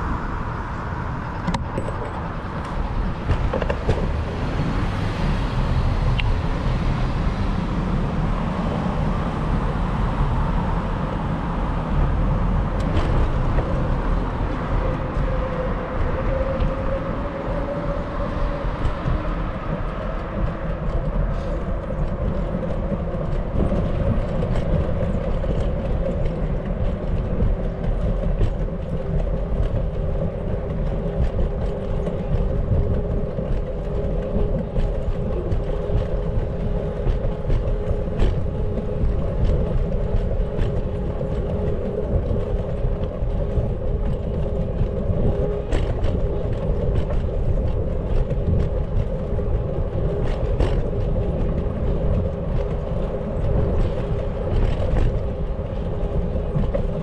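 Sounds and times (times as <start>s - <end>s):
passing vehicle hum: 0.0s - 57.0s
wind and road noise rumble: 0.0s - 57.0s.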